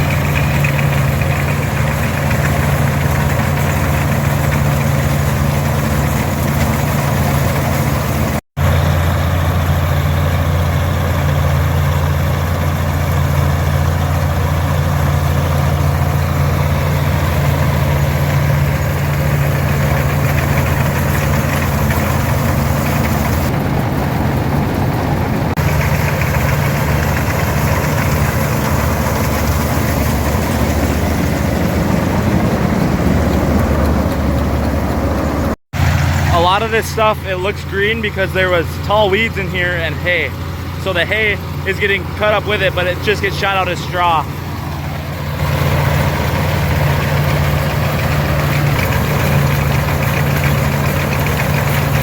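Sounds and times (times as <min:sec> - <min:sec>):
combine threshing noise: 0:00.0 - 0:52.0
tractor diesel engine under load: 0:00.0 - 0:52.0.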